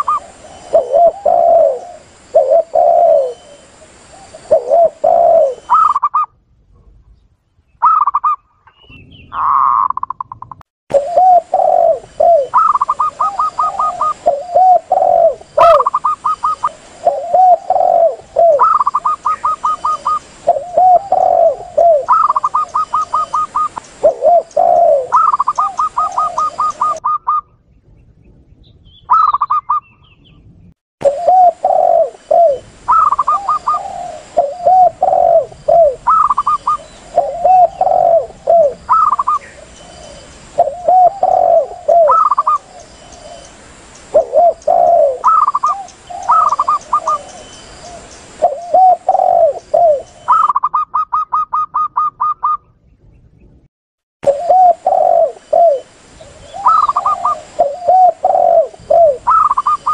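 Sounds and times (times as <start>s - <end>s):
doves cooing: 0.0s - 6.3s, 9.3s - 27.5s, 31.0s - 52.6s, 54.2s - 59.9s.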